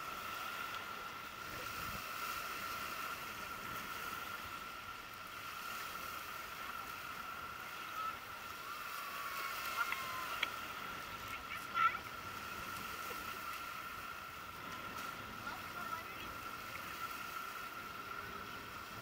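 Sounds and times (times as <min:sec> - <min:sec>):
small waves washing on stones: 0:00.0 - 0:19.0
distant voices: 0:00.4 - 0:19.0.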